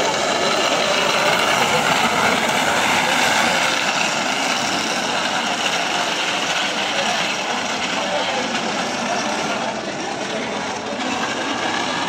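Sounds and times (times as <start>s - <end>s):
cart wheels rolling on asphalt: 0.0s - 12.0s.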